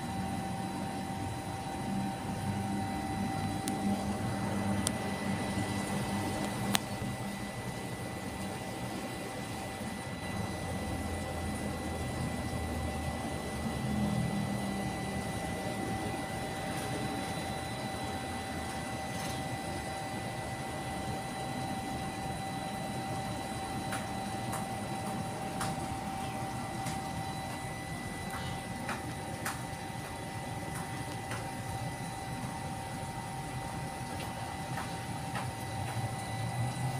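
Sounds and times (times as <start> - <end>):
machine hum with high whine: 0.0 - 36.9.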